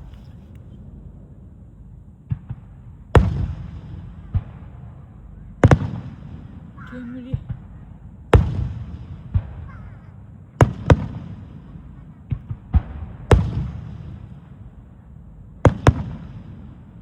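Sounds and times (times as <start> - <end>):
rolling echo of bangs: 2.2 - 14.8, 15.6 - 17.0.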